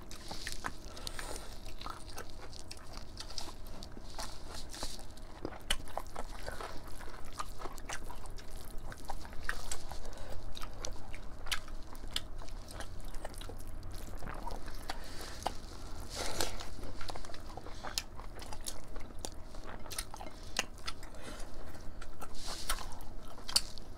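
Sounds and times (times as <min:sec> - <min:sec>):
wet chewing: 0:00.0 - 0:23.9.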